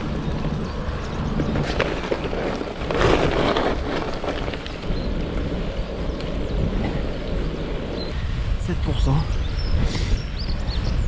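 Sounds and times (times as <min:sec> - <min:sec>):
road rumble: 0:00.0 - 0:11.0
wind over microphone: 0:00.0 - 0:11.0.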